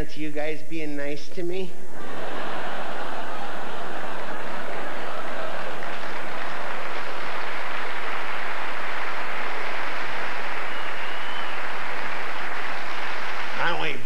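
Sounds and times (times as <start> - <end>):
audience applauding: 2.2 - 14.0.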